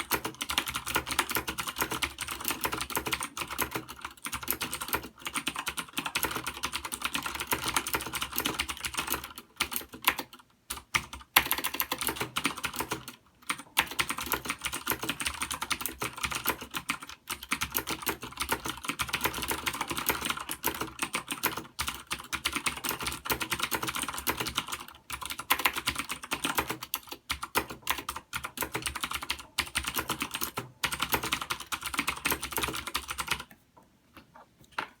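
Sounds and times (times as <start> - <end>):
fast typing on mechanical keyboard: 0.0 - 33.5.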